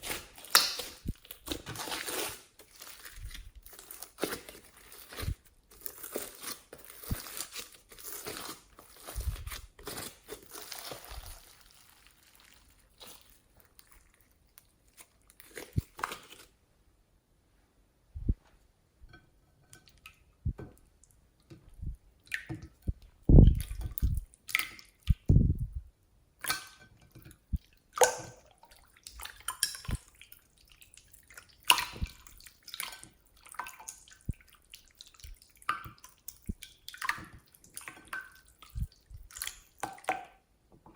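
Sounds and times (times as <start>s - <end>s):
slime squelching by hand: 0.0s - 16.5s, 22.2s - 25.7s, 26.4s - 40.3s.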